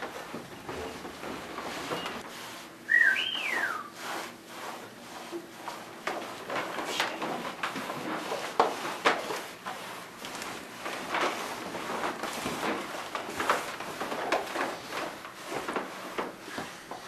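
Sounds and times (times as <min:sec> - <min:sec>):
footsteps on wooden floor: 0:00.0 - 0:02.3, 0:05.3 - 0:17.0.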